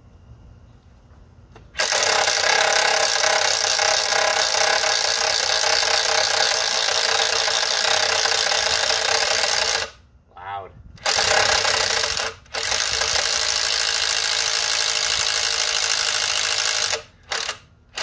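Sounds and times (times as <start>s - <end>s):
impact driver drilling into wood: 1.8s - 10.0s, 11.0s - 18.0s.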